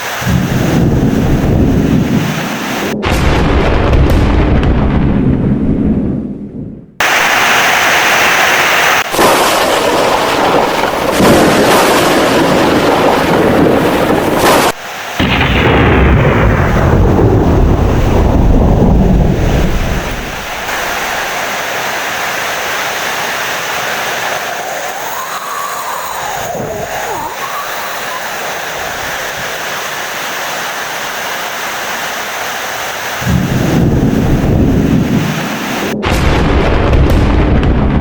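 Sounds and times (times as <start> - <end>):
heavy rain: 0.0 - 3.0, 7.0 - 36.2
rolling thunder: 0.2 - 7.5, 9.0 - 29.5, 33.2 - 38.0.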